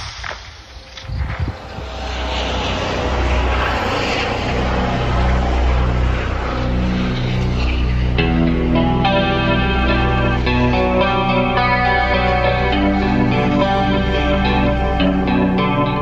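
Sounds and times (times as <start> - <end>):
low hum: 0.0 - 16.0
aircraft engine drone: 0.6 - 16.0.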